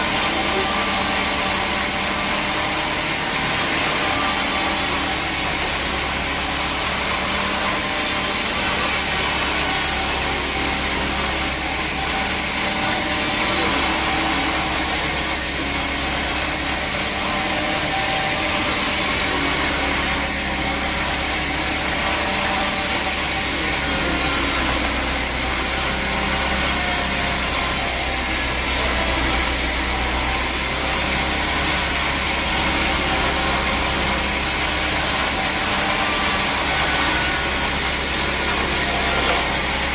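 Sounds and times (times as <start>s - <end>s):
saw cutting through log: 0.0s - 39.9s
saw motor running: 0.0s - 39.9s.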